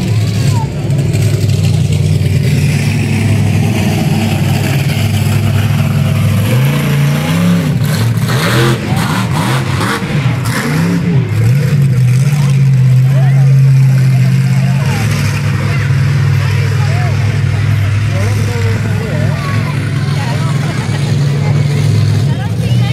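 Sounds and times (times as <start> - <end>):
truck engine idling and revving: 0.0 - 22.9.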